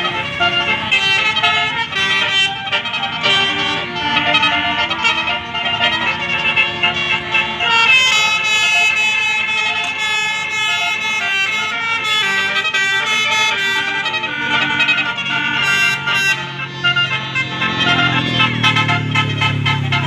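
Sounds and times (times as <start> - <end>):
multi-tone bus horn tune: 0.0 - 20.0.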